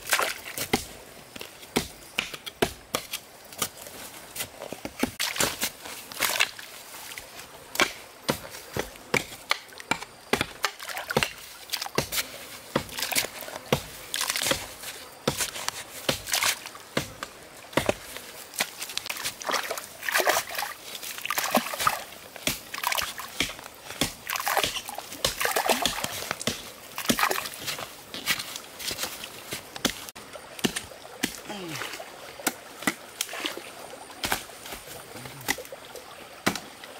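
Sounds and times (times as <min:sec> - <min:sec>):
hoe chopping into wet mud: 0:00.0 - 0:01.0, 0:01.7 - 0:03.8, 0:04.4 - 0:06.5, 0:07.7 - 0:31.6, 0:32.4 - 0:33.6, 0:34.2 - 0:35.7, 0:36.4 - 0:36.7
water sloshing and splashing: 0:00.0 - 0:36.9.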